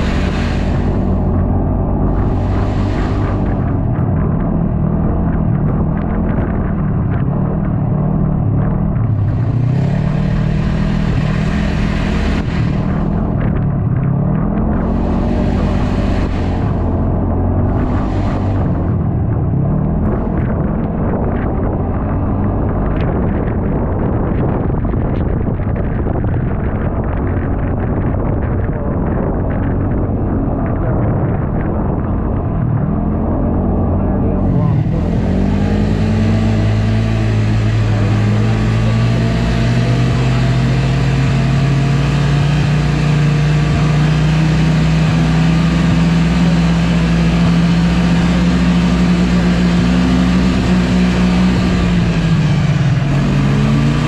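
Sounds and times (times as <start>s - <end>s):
snowmobile engine running: 0.0s - 54.0s
wind buffeting the microphone: 0.0s - 54.0s.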